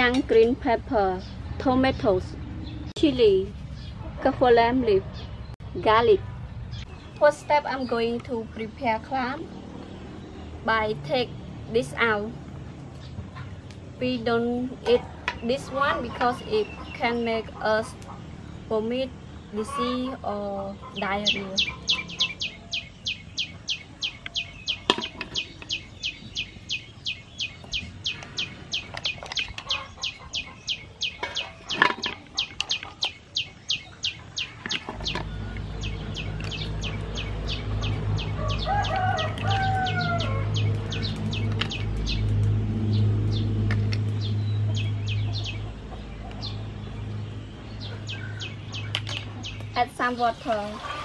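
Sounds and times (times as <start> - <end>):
bird chirping: 0.0 - 51.0.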